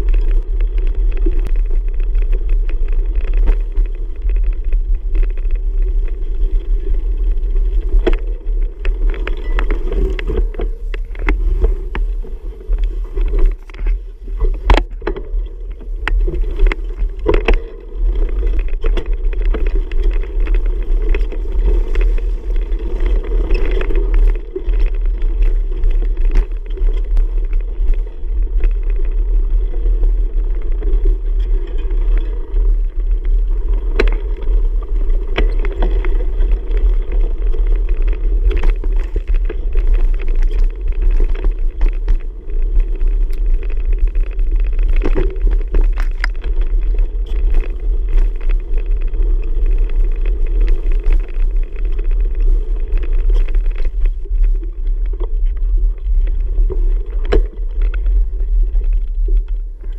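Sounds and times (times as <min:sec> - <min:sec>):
bicycle knocks and rattles: 0:00.0 - 0:59.9
wind rumble on microphone: 0:00.0 - 0:59.9.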